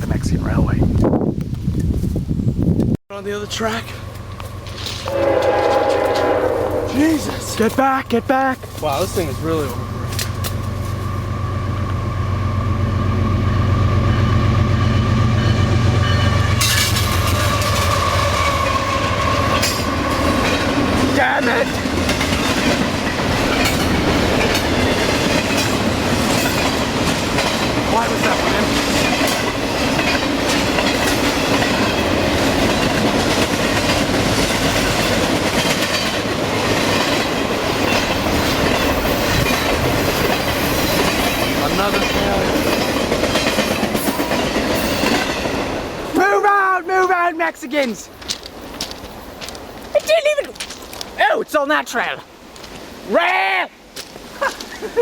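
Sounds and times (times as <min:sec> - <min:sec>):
train rumbling past: 0:03.1 - 0:50.2.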